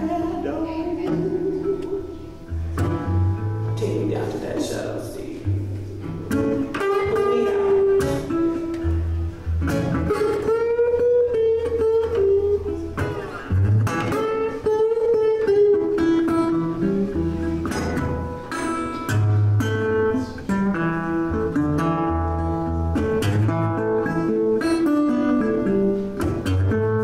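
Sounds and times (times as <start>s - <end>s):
blues resonator guitar: 0.0s - 27.0s.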